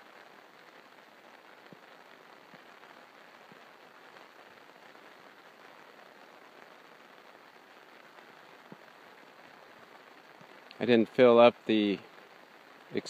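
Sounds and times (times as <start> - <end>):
faint hiss of trickling water: 0.0 - 13.0.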